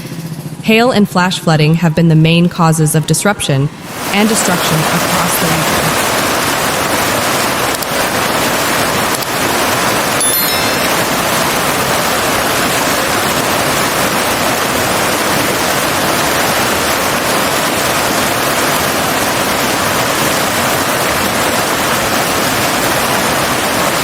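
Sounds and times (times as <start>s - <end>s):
dense rush of water: 3.8s - 24.0s.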